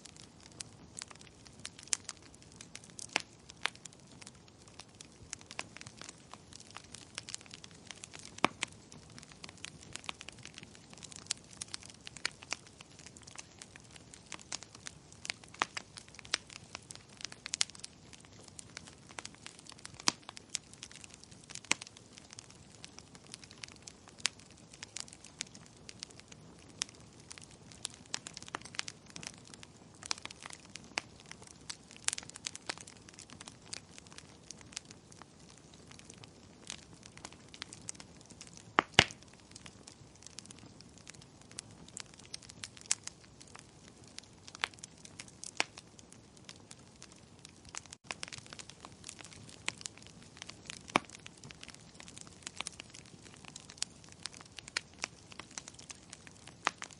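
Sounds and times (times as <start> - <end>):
soft steady hiss: 0.0 - 56.9
wood fire crackling and popping: 0.0 - 56.9.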